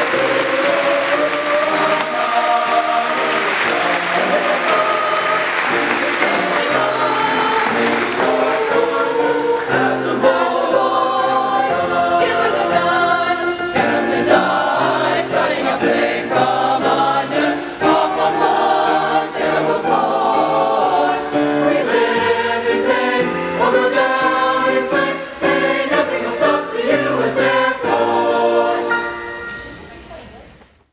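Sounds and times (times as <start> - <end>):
mixed choir singing: 0.0 - 29.6.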